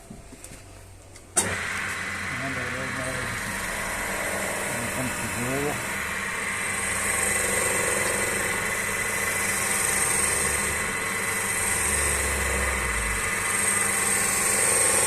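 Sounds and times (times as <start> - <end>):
tool scraping spinning wood: 1.4 - 15.0
wood lathe running: 1.4 - 15.0.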